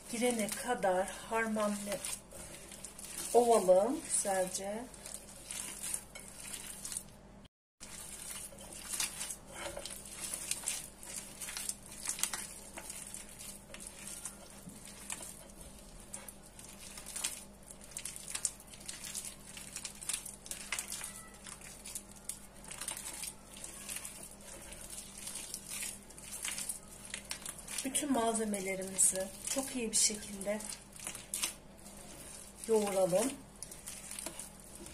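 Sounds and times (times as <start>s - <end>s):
gloved hand kneading sticky mixture: 0.0s - 34.9s.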